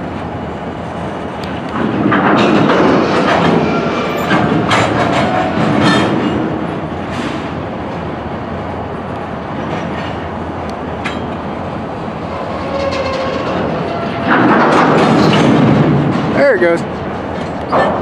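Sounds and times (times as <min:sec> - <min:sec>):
rumble of train wheels on rail: 0:00.0 - 0:18.0.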